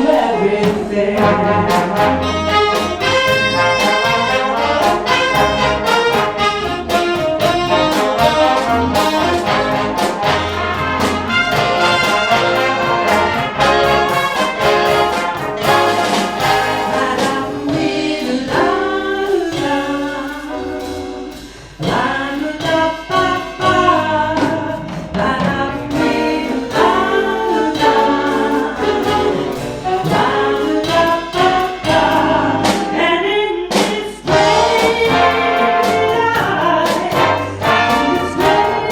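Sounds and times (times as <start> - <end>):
brass section: 0.0 - 19.2, 25.9 - 33.4, 34.2 - 38.9
big band playing: 0.0 - 38.9.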